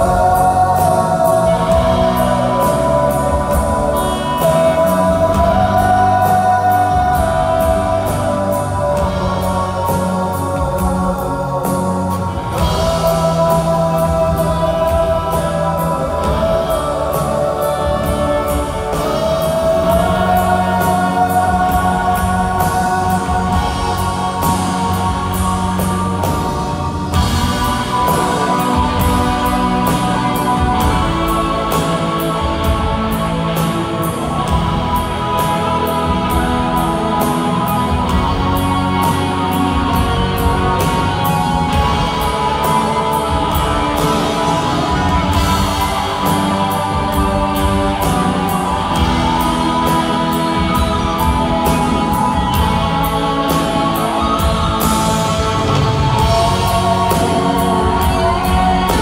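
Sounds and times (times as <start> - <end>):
drum kit beat: 0.0 - 59.0
live rock band playing: 0.0 - 59.0.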